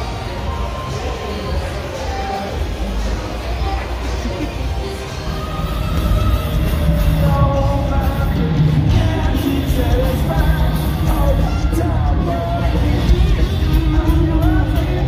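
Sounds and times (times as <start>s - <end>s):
song with heavy bass: 0.0s - 15.0s.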